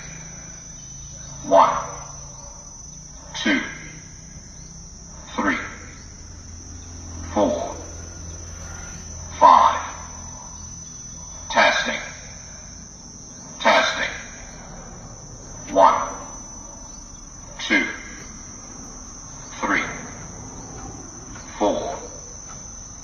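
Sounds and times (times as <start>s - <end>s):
crickets trilling: 0.0s - 23.0s
warning siren falling tones: 0.0s - 23.0s.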